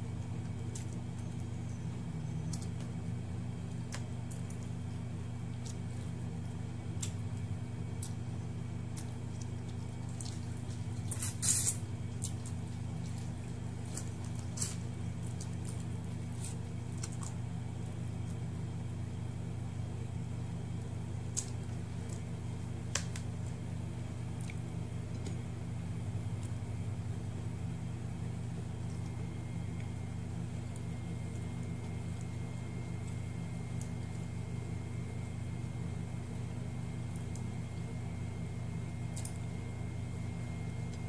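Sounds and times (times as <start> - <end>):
appliance machine hum: 0.0 - 41.0.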